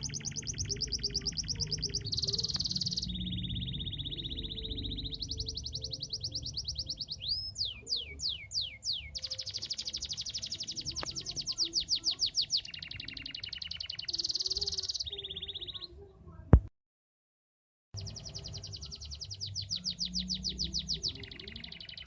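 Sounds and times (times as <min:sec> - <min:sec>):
canary singing trills: 0:00.0 - 0:16.1, 0:18.0 - 0:22.0.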